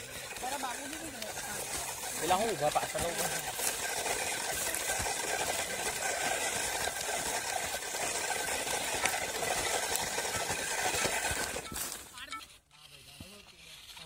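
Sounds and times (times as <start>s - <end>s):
electric gear motors whirring: 0.0s - 14.0s.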